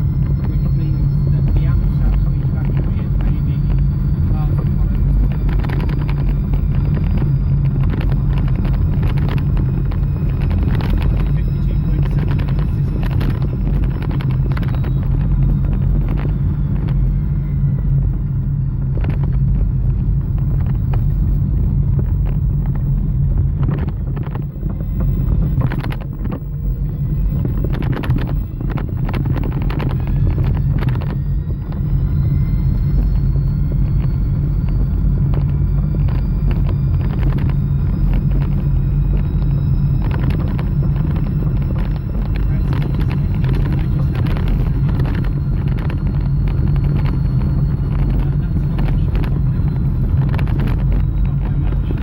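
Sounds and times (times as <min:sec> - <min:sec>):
electric motor whine: 0:00.0 - 0:52.0
road and tyre rumble: 0:00.0 - 0:52.0.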